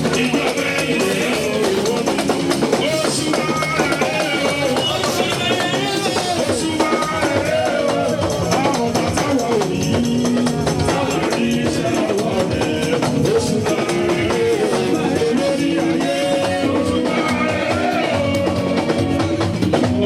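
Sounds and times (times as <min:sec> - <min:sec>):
hand percussion beat: 0:00.0 - 0:20.0
voices singing worship music: 0:00.0 - 0:20.0.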